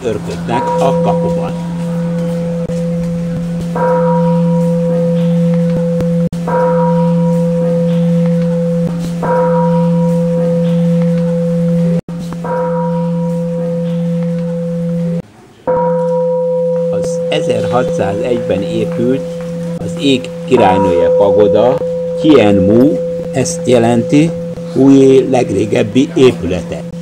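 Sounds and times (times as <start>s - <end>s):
deep bell ringing: 0.0s - 27.0s.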